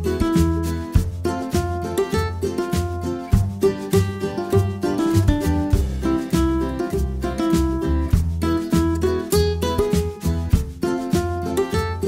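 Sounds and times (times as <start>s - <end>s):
bass notes: 0.0s - 12.0s
plucked-string melody: 0.0s - 12.0s.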